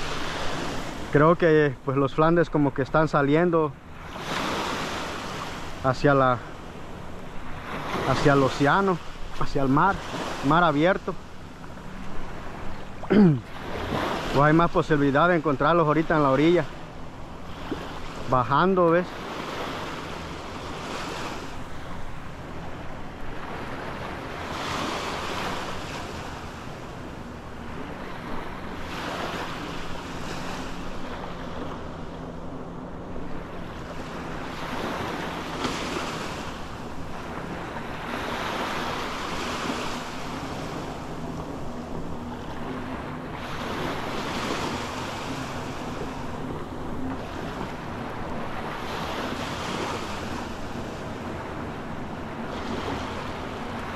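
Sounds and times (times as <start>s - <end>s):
small waves lapping on beach: 0.0s - 53.9s.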